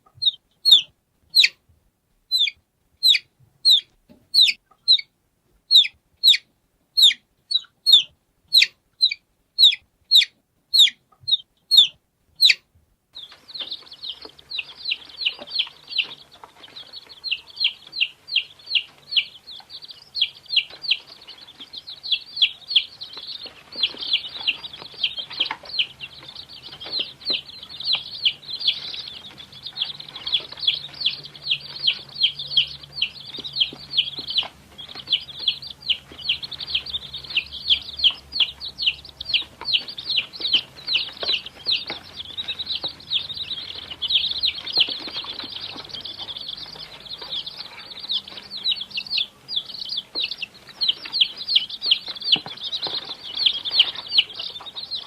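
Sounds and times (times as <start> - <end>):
chicks peeping: 0.0 - 1.7, 2.3 - 55.0.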